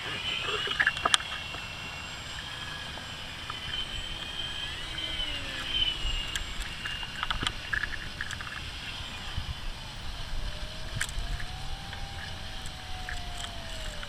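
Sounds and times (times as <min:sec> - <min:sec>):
model plane motor whining: 0:00.0 - 0:14.0
wind rumble on microphone: 0:00.0 - 0:14.0.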